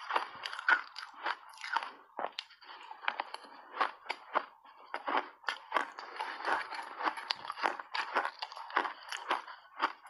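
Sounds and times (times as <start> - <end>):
ice being chewed: 0.0 - 10.0.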